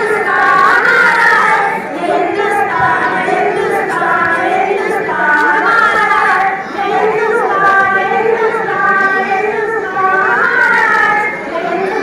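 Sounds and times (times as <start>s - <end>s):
girls singing into microphone: 0.0s - 12.0s.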